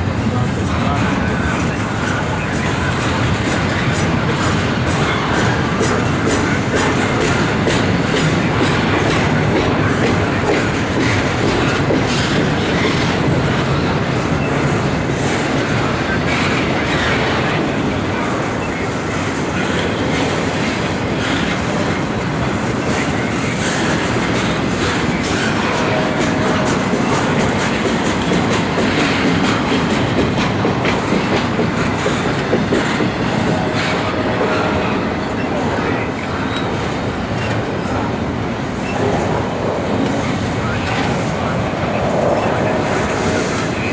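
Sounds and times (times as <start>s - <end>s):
freight train rumbling: 0.0s - 43.9s
wheels clicking over rail joints: 0.0s - 43.9s.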